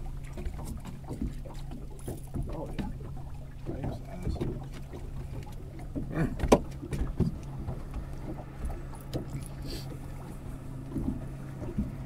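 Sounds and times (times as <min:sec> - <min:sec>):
knocks in a boat: 0:00.0 - 0:12.0
outboard motor humming: 0:00.0 - 0:12.0.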